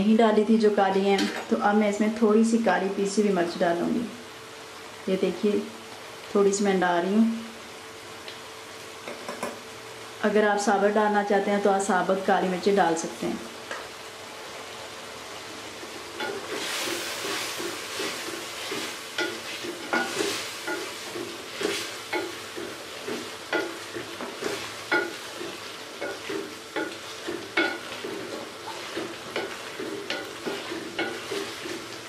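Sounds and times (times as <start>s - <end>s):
food sizzling in oil: 0.4s - 32.0s.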